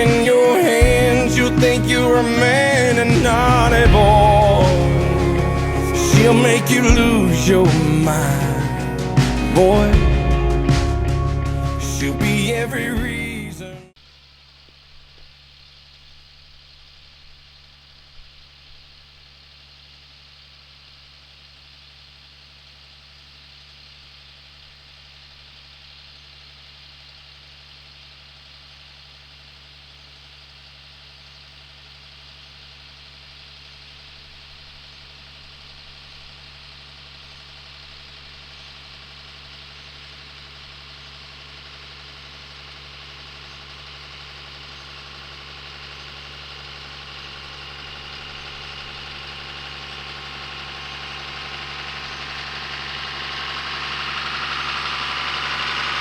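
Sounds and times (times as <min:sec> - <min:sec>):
engine running: 0:00.0 - 0:14.0, 0:18.2 - 0:56.0.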